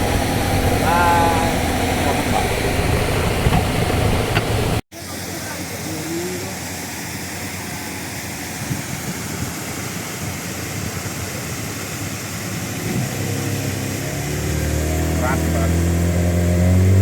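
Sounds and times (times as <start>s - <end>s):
deep engine hum: 0.0s - 8.7s, 10.3s - 17.0s
motor engine running: 0.0s - 17.0s
steady rushing noise: 0.0s - 17.0s.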